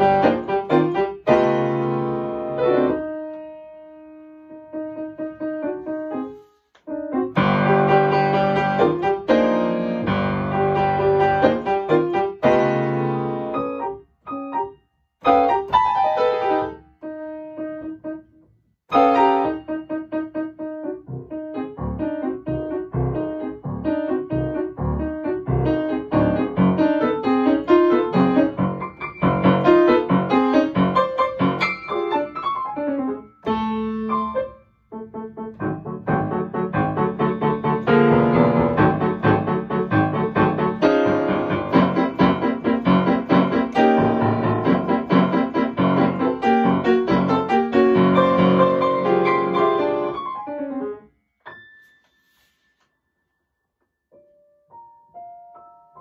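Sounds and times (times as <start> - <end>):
solo piano playing: 0.0 - 52.2, 54.1 - 56.0.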